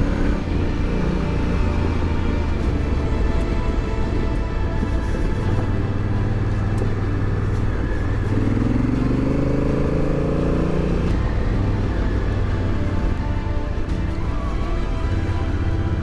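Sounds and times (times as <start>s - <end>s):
background music: 0.0s - 16.0s
motorcycle engine accelerating: 0.0s - 16.0s.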